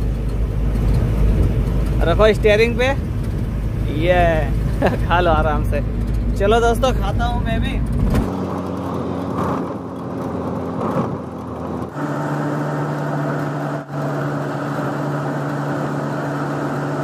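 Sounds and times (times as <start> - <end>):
truck diesel engine humming: 0.0 - 17.0.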